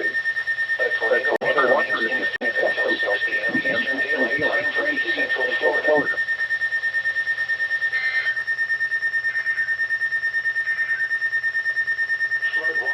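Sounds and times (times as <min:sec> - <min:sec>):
radio alert beeping: 0:00.0 - 0:12.9.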